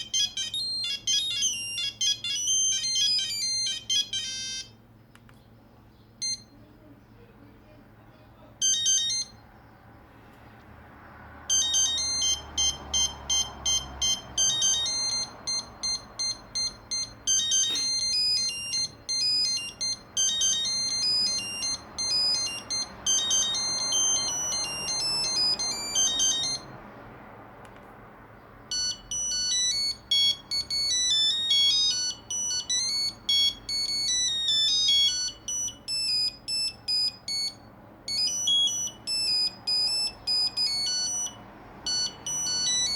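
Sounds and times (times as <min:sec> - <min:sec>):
monophonic phone ringtone melody: 0:00.0 - 0:04.9, 0:06.2 - 0:06.6, 0:08.6 - 0:09.5, 0:11.4 - 0:27.0, 0:28.6 - 0:42.9.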